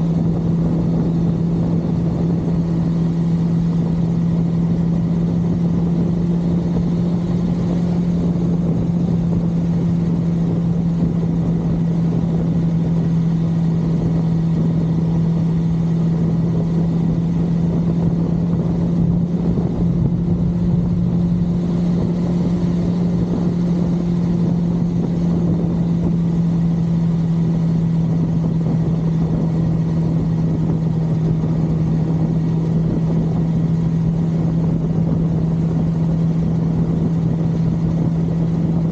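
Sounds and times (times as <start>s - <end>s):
motorcycle engine cruising: 0.0s - 38.9s
road noise rushing: 0.0s - 38.9s.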